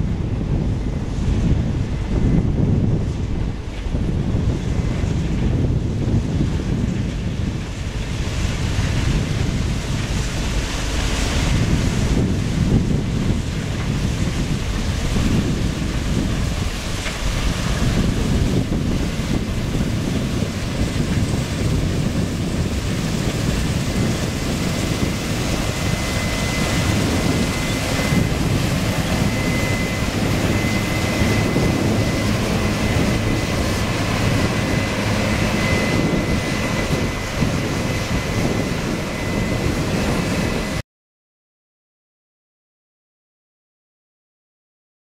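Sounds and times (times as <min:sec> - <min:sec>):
combine harvester running: 0:00.0 - 0:40.8.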